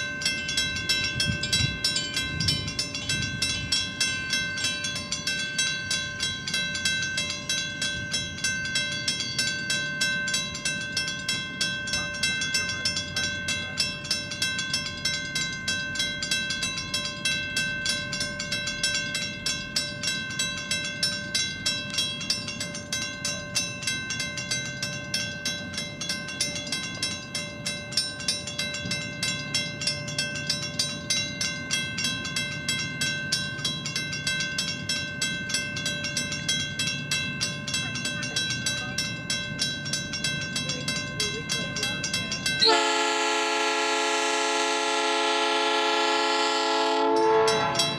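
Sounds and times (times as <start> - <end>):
railroad crossing bell ringing: 0.0 - 47.9.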